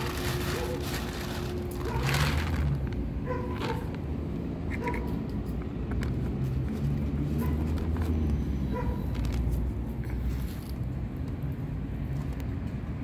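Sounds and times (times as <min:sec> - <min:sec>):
vehicle engine rumble passing: 0:00.0 - 0:13.0.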